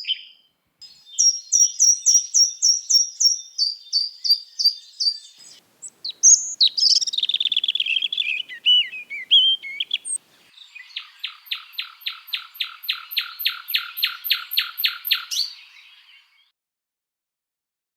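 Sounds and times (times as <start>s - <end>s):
songbird singing: 0.0s - 16.5s.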